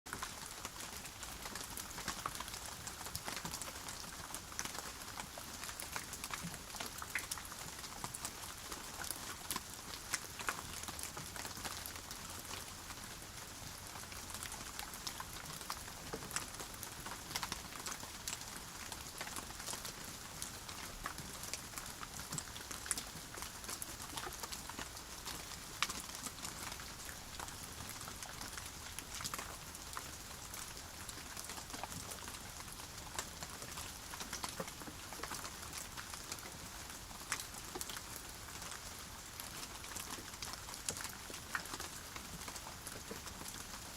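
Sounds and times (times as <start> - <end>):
raindrops pattering on a surface: 0.1 - 43.9
steady rainfall: 0.1 - 43.9.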